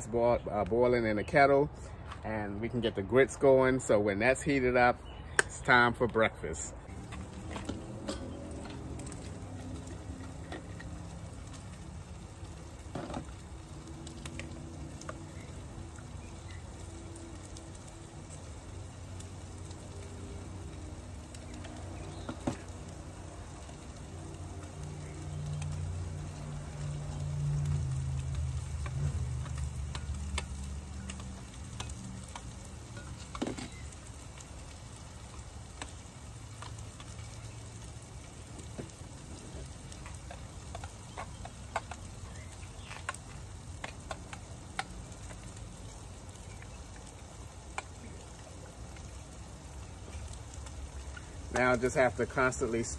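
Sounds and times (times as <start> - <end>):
meat sizzling in a frying pan: 6.9 - 52.9.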